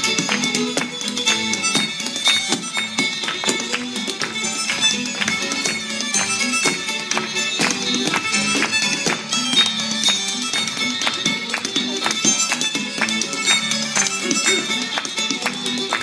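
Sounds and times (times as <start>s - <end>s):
dancer's shoes tapping: 0.0s - 16.0s
fiddle tune: 0.0s - 16.0s.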